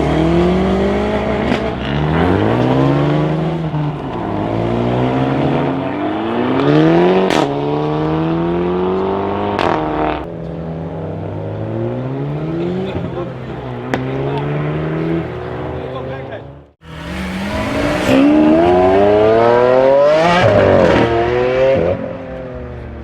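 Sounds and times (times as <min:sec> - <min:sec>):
car engine accelerating: 0:00.0 - 0:23.0
exhaust crack: 0:00.0 - 0:23.0.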